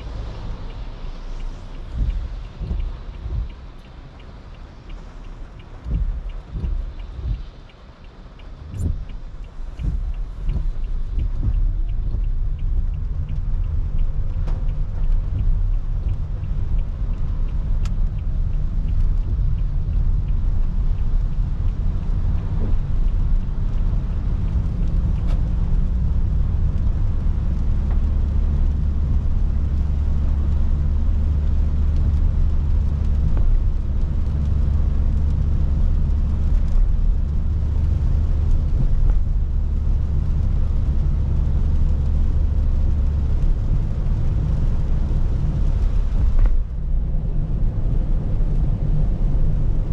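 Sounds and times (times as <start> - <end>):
car interior road rumble: 0.0 - 49.9.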